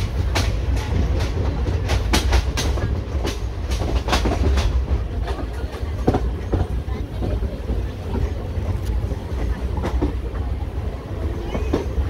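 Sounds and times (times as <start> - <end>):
train wheels clicking over rail joints: 0.0 - 10.6
train rumble: 0.0 - 12.0.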